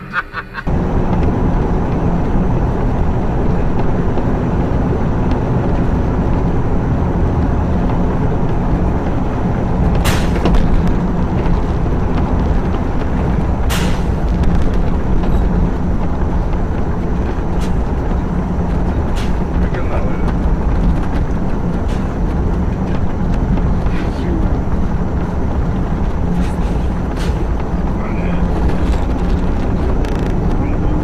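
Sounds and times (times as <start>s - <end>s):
vehicle engine and road noise: 0.0s - 31.0s.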